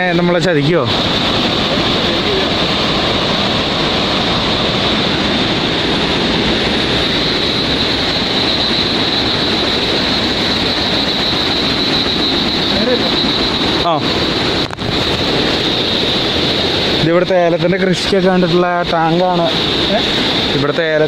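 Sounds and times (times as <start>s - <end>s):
high-pitched whine: 0.0s - 21.0s
loud rushing noise: 0.0s - 21.0s.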